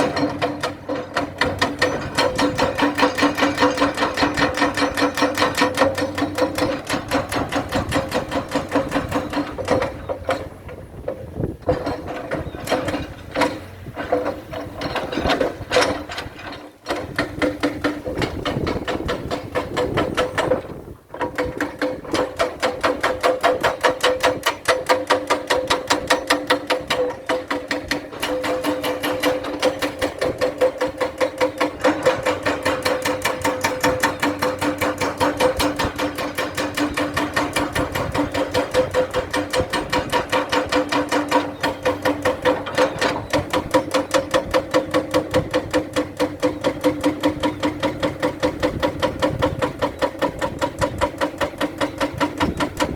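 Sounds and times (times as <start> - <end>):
crawler tracks clanking: 0.0 - 52.9
excavator hum: 0.0 - 52.9
excavator mechanical clatter: 0.0 - 52.9.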